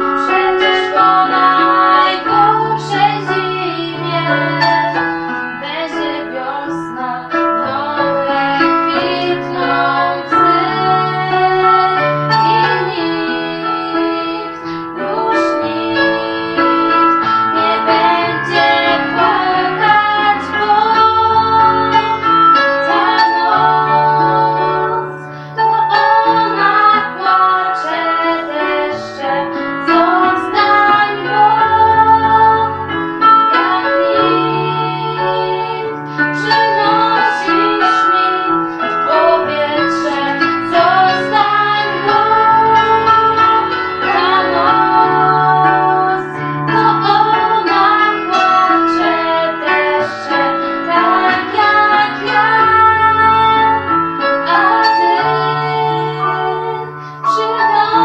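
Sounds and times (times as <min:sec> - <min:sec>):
piano and bass backing track: 0:00.0 - 0:58.0
young women singing pop duet: 0:00.0 - 0:58.0.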